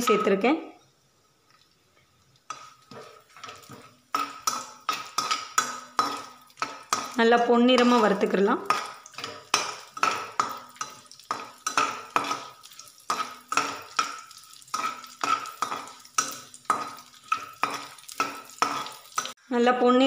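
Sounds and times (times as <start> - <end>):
nuts frying in hot fat: 0.0 - 19.5
metal spatula scraping a pan: 2.5 - 19.4.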